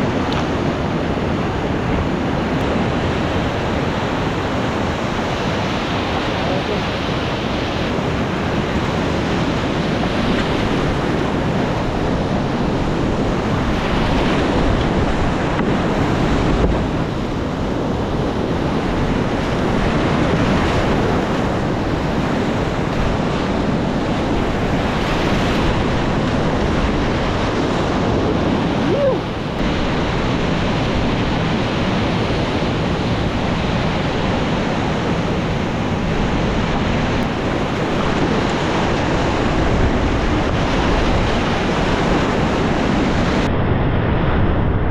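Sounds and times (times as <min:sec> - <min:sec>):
whitewater rapids rushing: 0:00.0 - 0:43.5
wind on microphone: 0:00.0 - 0:44.9.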